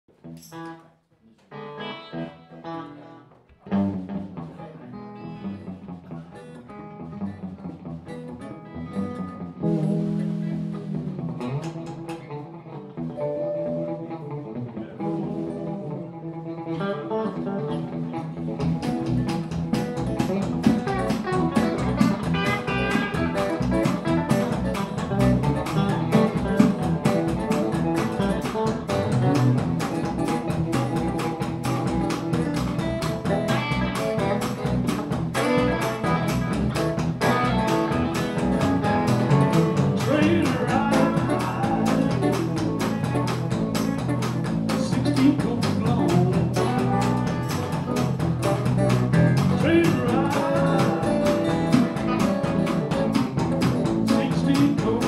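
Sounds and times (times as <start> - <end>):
bass guitar: 0.1 - 55.0
electric guitar: 0.1 - 55.0
drums: 1.4 - 55.0.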